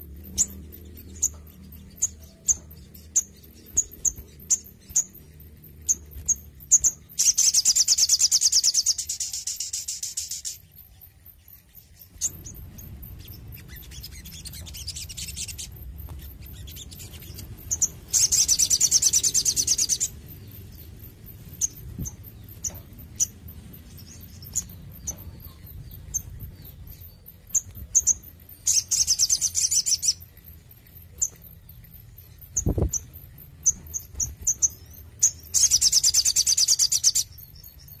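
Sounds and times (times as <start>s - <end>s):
bird singing buzzy trills: 0.0s - 38.0s.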